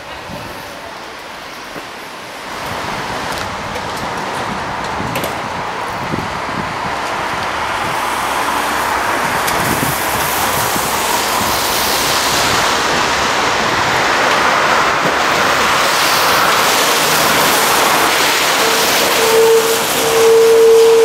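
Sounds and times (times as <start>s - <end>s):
tram wheels rushing on rails: 0.0s - 21.0s.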